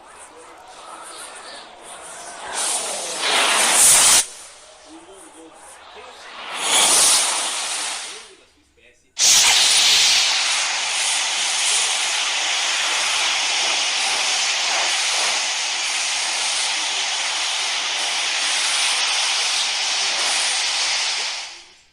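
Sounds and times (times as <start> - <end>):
loud steady hissing: 0.0 - 21.9.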